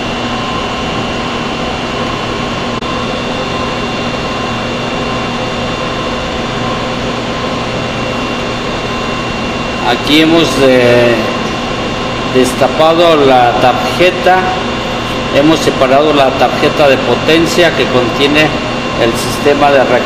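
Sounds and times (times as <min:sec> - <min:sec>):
whirring machine noise: 0:00.0 - 0:20.0.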